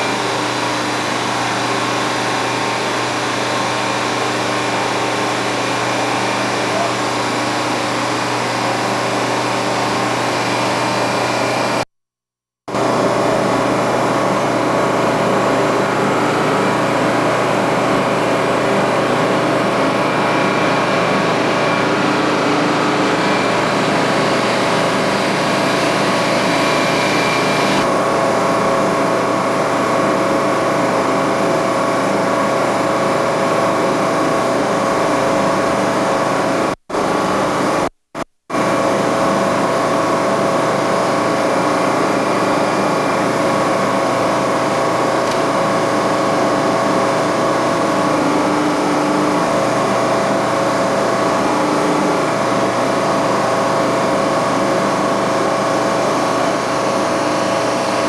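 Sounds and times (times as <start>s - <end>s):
machine engine droning: 0.0s - 11.8s, 12.7s - 37.9s, 38.5s - 58.0s.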